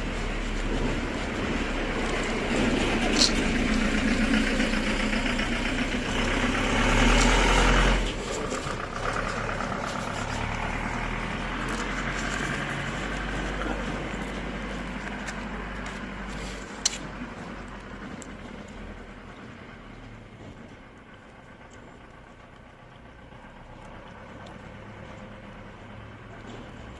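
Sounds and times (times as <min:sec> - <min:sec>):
vehicle engine running: 0:00.0 - 0:26.9.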